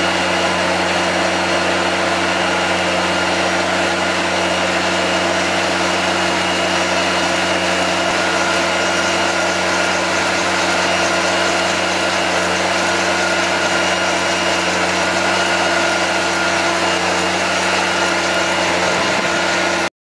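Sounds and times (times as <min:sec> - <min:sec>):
floor sweeper engine hum: 0:00.0 - 0:19.9.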